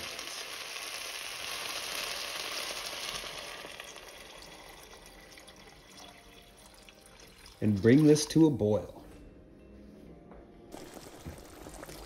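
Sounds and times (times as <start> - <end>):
water pouring into a pot: 0.0 - 8.4, 10.7 - 12.0.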